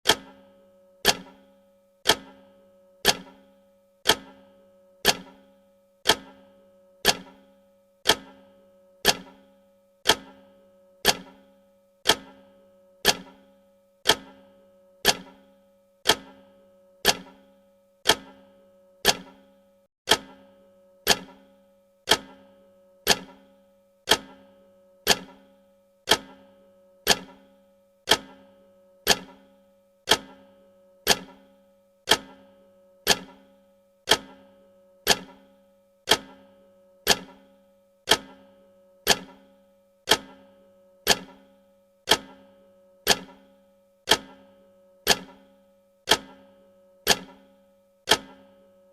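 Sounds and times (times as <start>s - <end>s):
clock-like tick with ringing tone: 0.0s - 48.9s.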